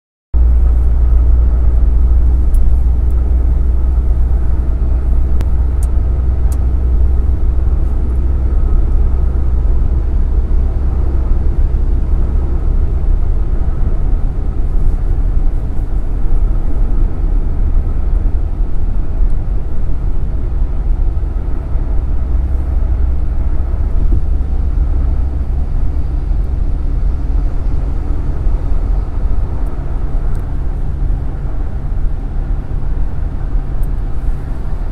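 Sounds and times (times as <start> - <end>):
car road and engine rumble: 0.4 - 34.9.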